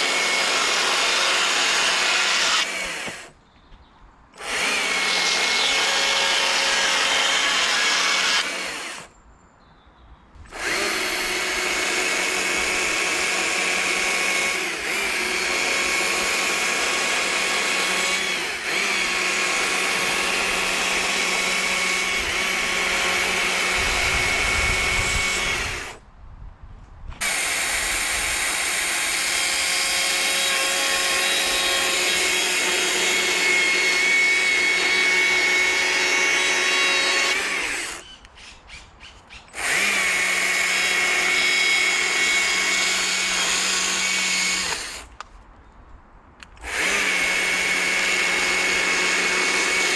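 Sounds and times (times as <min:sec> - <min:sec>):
chainsaw cutting wood: 0:00.0 - 0:03.4, 0:04.4 - 0:09.1, 0:10.4 - 0:26.0, 0:27.2 - 0:38.2, 0:39.5 - 0:45.2, 0:46.5 - 0:49.9.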